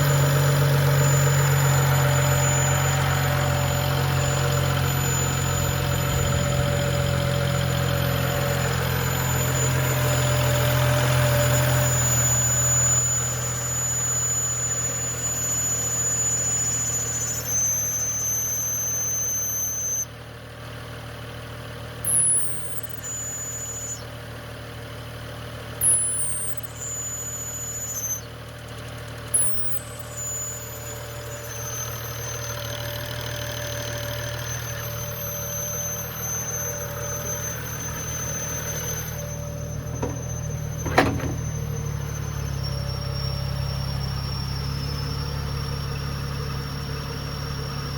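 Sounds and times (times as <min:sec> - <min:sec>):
high-pitched whistle: 0:00.0 - 0:20.2, 0:22.0 - 0:24.3, 0:25.8 - 0:47.9
sharp rising squeaks: 0:00.0 - 0:20.2, 0:22.0 - 0:24.2, 0:25.8 - 0:47.9
car engine idling: 0:00.0 - 0:25.8, 0:26.9 - 0:47.9.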